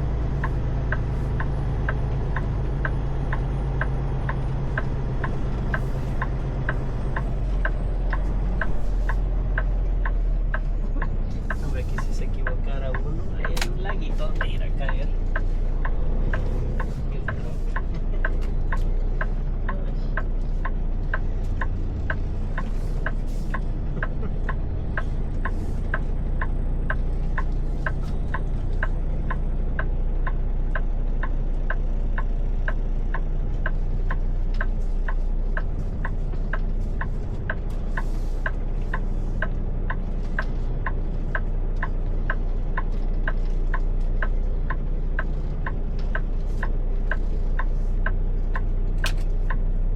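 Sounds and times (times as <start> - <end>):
truck idling: 0.0 - 49.9.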